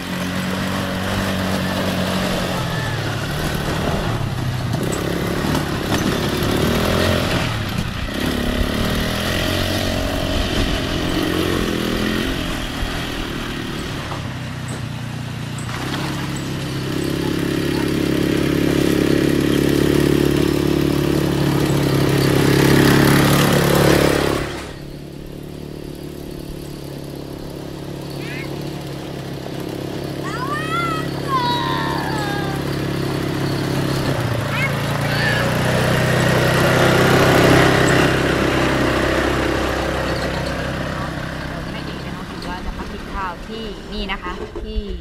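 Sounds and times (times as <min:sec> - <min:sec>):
quad bike engine revving: 0:00.0 - 0:45.0.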